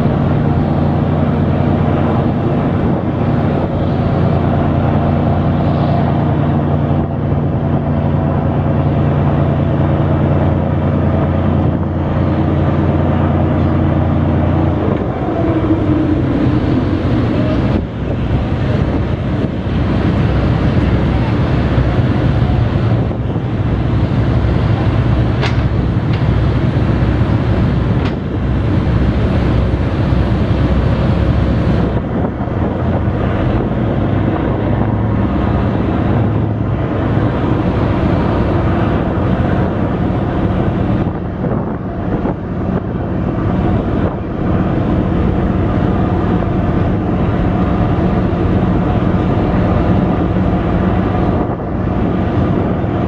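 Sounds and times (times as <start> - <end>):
ship diesel engines rumbling: 0.0 - 53.0
wind on microphone: 0.0 - 53.0.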